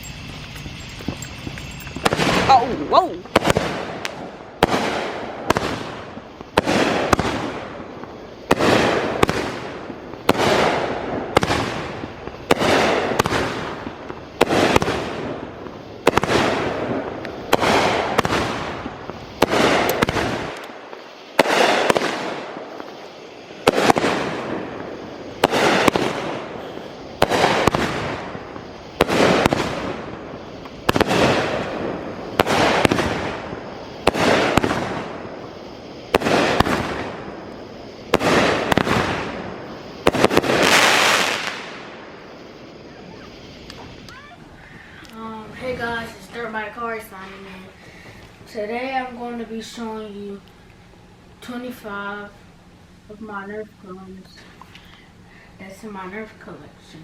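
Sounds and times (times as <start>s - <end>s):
firework bangs: 0.0s - 50.2s.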